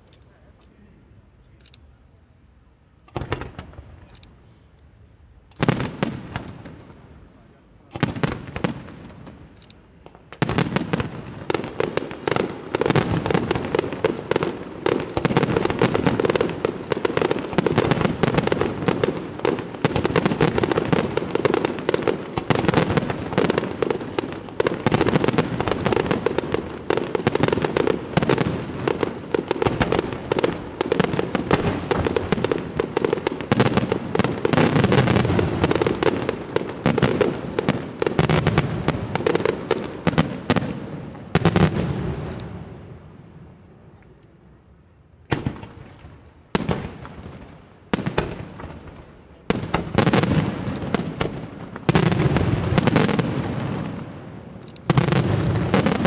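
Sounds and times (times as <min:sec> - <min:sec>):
fireworks bursting: 0:02.9 - 0:43.3, 0:45.2 - 0:56.0.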